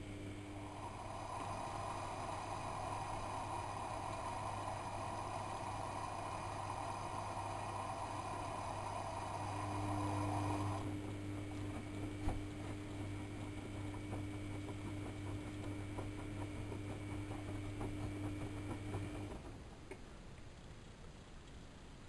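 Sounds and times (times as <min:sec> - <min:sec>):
washing machine motor hum: 0:00.0 - 0:19.9.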